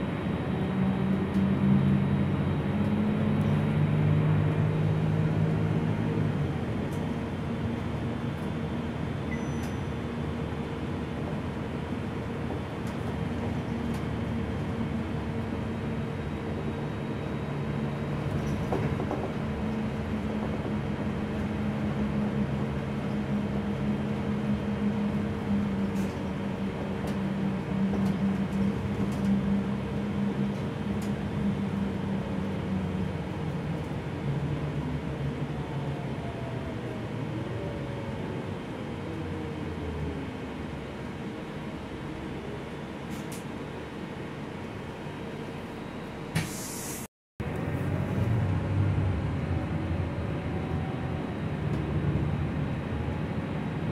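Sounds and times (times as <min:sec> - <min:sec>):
bus engine running: 0:00.0 - 0:53.9
road noise: 0:00.0 - 0:53.9.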